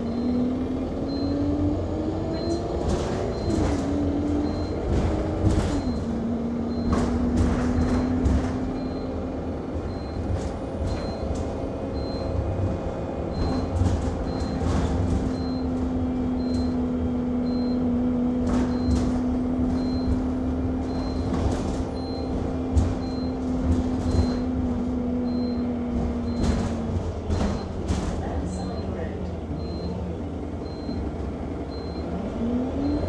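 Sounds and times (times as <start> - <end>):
bus body rattling: 0.0 - 33.0
bus engine and road rumble: 0.0 - 33.0.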